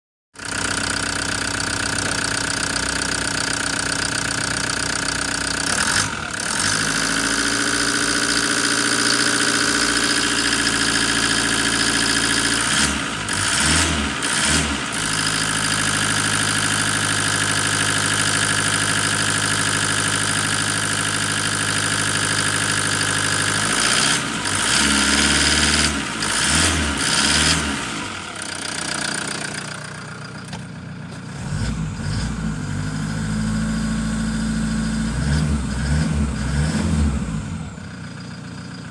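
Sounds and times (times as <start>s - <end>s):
diesel engine idling: 0.4s - 35.7s, 37.3s - 38.9s.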